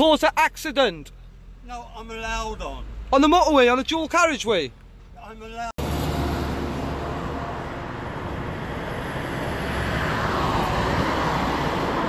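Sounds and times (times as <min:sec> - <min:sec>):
road traffic hum: 0:00.0 - 0:12.0
tyre and road rush: 0:00.0 - 0:12.0.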